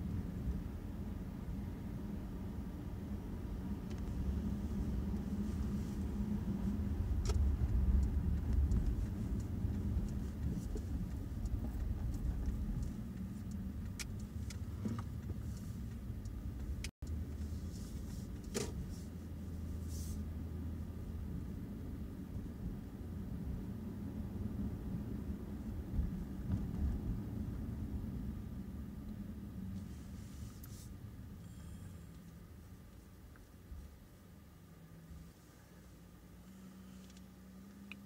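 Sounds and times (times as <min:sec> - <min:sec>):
road vehicle rumbling: 0:00.0 - 0:38.0.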